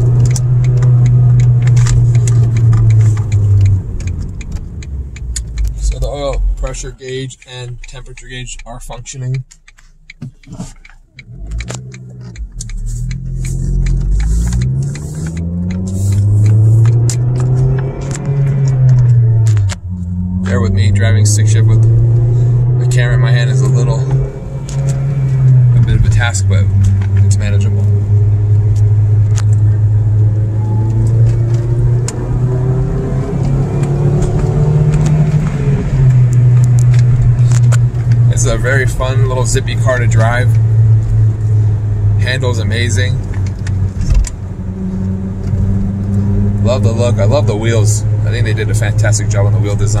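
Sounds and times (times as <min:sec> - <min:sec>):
car engine accelerating: 0:00.0 - 0:50.0
road noise: 0:00.0 - 0:50.0.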